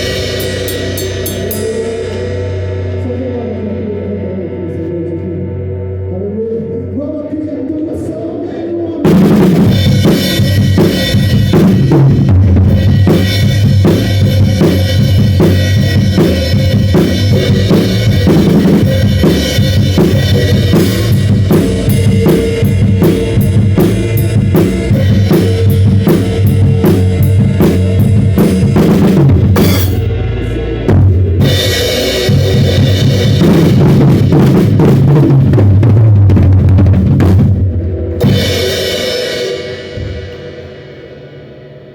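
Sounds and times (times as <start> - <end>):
drum kit playing a groove: 0.0 - 4.6, 9.0 - 41.9
band music: 0.0 - 41.9.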